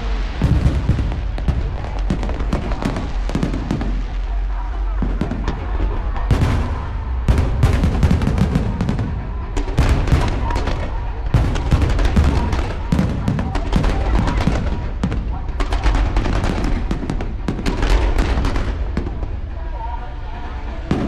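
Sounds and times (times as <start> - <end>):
deep fireworks booms: 0.0 - 19.8, 20.6 - 21.0
fireworks bangs and crackling: 0.0 - 21.0.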